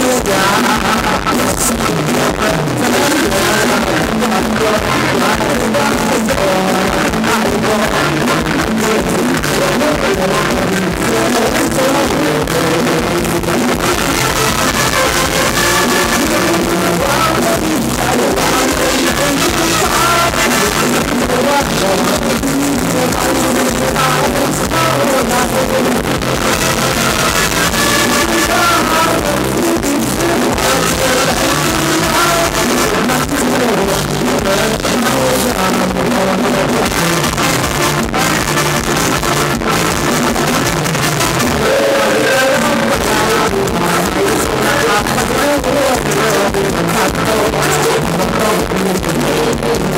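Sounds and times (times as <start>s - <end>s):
live band dance music: 0.0s - 49.9s
man singing: 0.0s - 49.9s.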